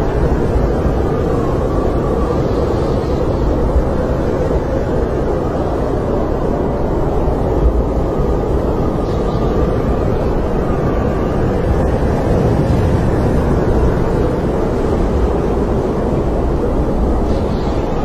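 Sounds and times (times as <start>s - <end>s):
faint wavering wind whistle: 0.0s - 18.0s
wind rushing: 0.0s - 18.0s.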